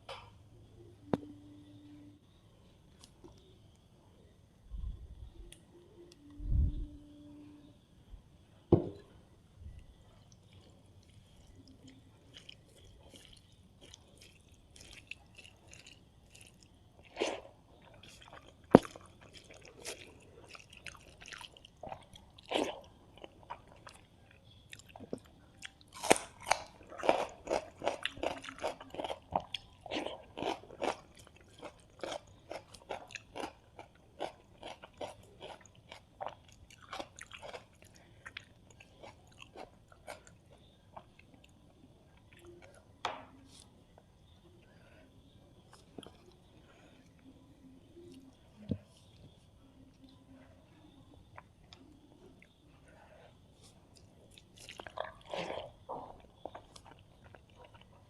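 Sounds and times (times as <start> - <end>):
chewing and crunching food: 9.7 - 44.4, 45.2 - 58.0.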